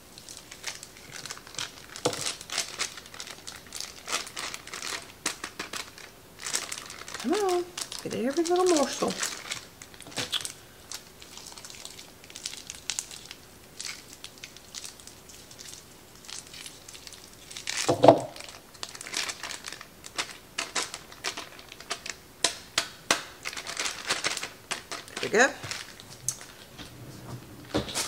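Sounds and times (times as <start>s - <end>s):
plastic film crinkling: 0.0s - 26.8s.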